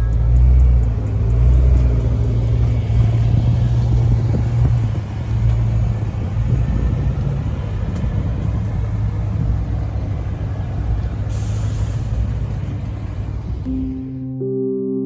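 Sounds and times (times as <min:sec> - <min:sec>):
car engine low exhaust rumble: 0:00.0 - 0:14.4.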